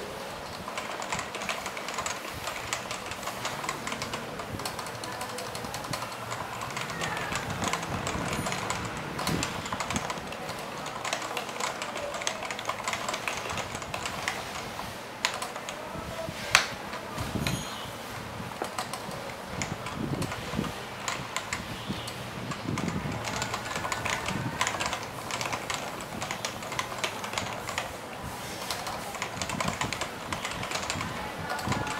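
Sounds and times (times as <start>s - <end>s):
keyboard typing: 0.0s - 31.9s.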